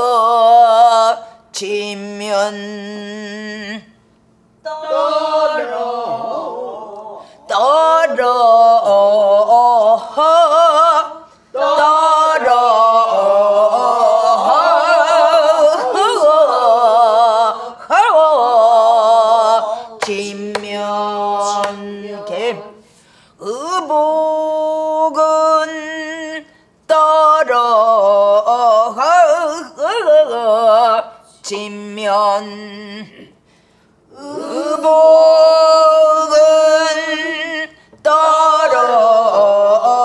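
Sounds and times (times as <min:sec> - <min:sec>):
woman singing with vibrato: 0:04.6 - 0:33.3, 0:34.1 - 0:40.0.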